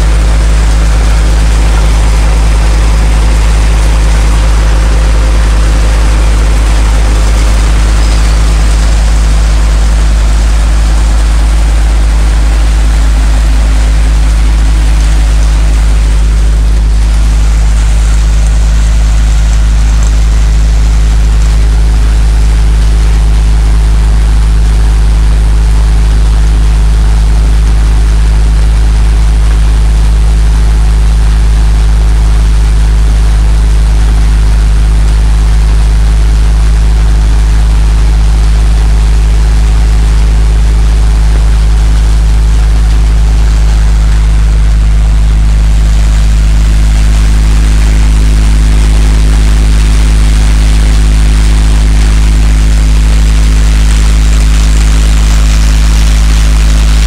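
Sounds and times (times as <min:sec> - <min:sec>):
low machine drone: 0:00.0 - 0:57.0.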